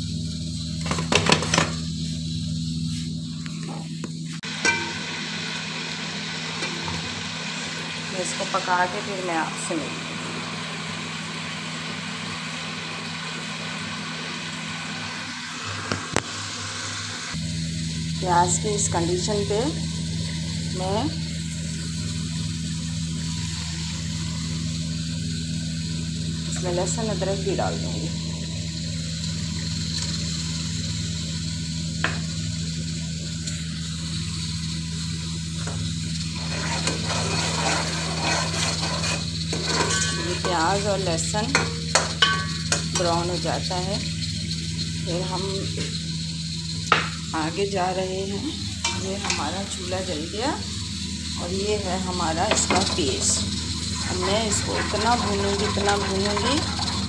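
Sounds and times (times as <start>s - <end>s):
kitchen hiss: 0.0s - 57.0s
onions sizzling in oil: 0.0s - 57.0s.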